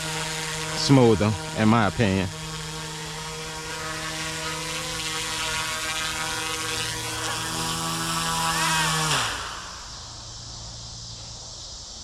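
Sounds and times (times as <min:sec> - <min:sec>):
lower motor tone: 0:00.0 - 0:11.2
rc helicopter rotor whine: 0:00.0 - 0:12.0.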